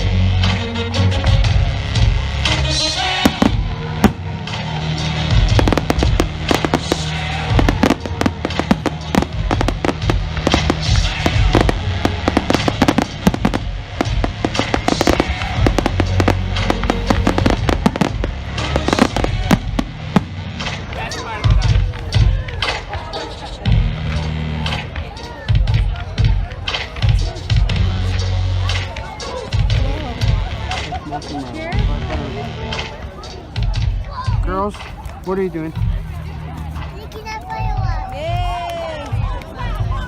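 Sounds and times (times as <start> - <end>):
music playing: 0.0 - 40.0
fireworks bangs and crackles: 1.2 - 36.0.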